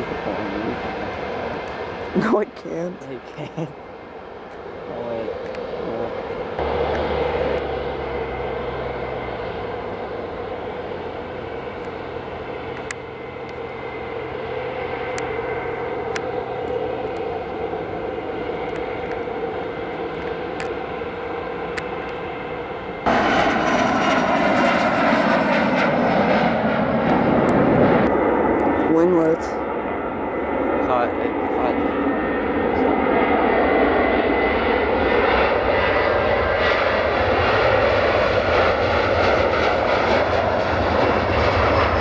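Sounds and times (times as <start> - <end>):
close jet with falling whine: 0.0 - 42.0
jet engines droning: 0.0 - 42.0.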